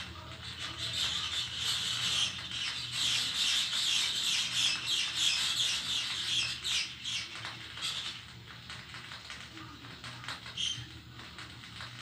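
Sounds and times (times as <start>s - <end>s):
many small birds chirping: 0.0s - 12.0s.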